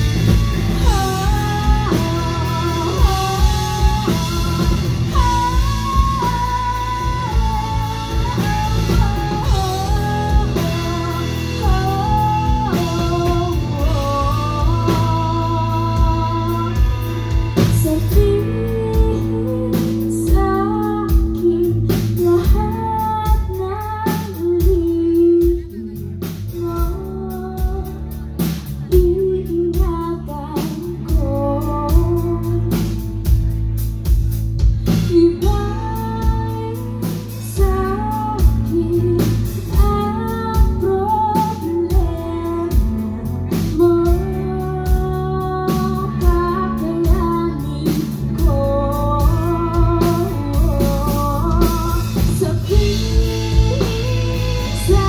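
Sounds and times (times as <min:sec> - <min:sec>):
woman singing: 0:00.0 - 0:33.8, 0:34.8 - 0:55.0
drum kit beat: 0:00.0 - 0:55.0
live rock band playing: 0:00.0 - 0:55.0.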